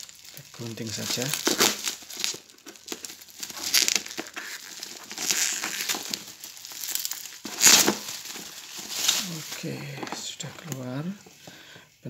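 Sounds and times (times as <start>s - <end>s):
bubble wrap crinkling: 0.0s - 11.7s
scissors cutting plastic: 0.8s - 10.8s.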